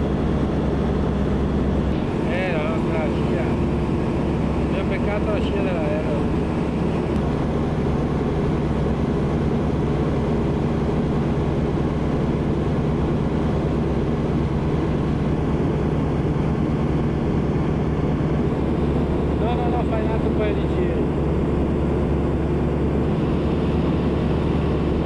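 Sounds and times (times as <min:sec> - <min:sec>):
aircraft engine drone: 0:00.0 - 0:25.0.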